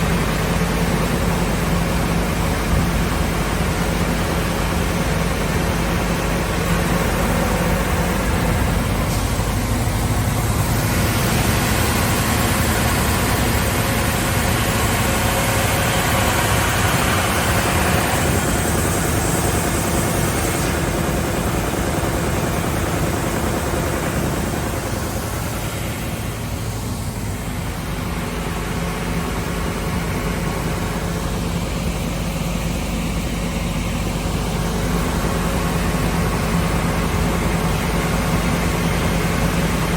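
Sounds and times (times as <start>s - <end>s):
motor hum: 1.4s - 33.4s.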